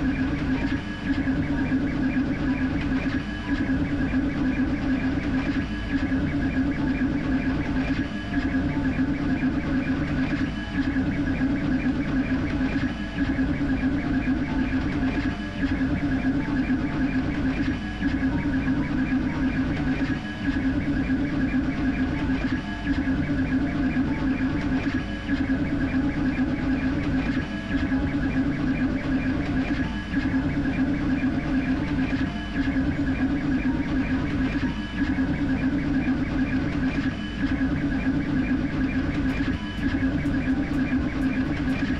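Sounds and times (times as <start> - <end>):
printer motors whining: 0.0 - 41.9.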